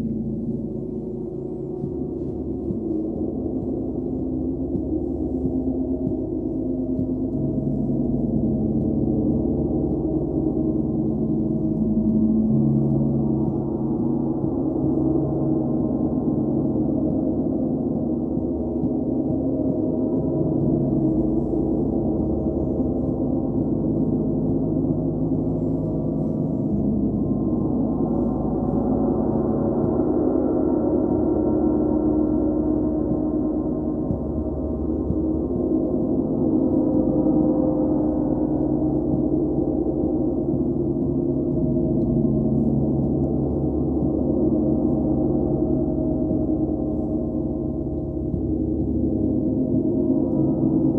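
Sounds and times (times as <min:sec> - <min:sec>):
gongs played with soft mallets: 0:00.0 - 0:50.9.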